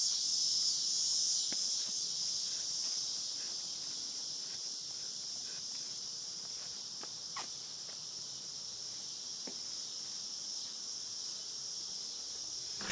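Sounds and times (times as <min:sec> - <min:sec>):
insects chirping: 0:00.0 - 0:12.9.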